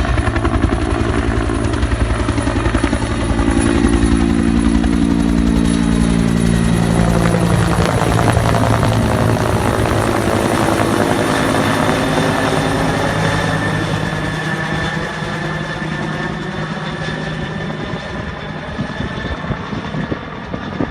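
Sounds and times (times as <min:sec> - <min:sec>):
helicopter rotor and turbine: 0:00.0 - 0:20.9.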